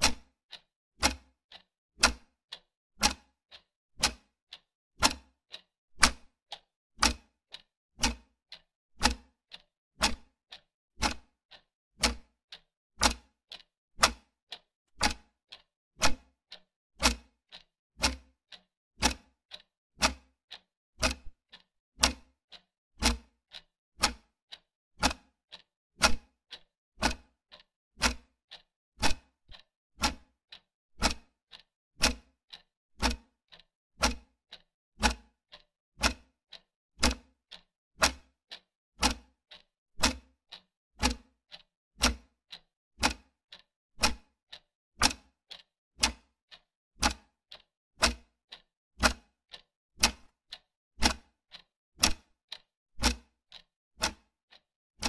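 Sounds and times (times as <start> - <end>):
wall clock ticking: 0.0 - 54.6.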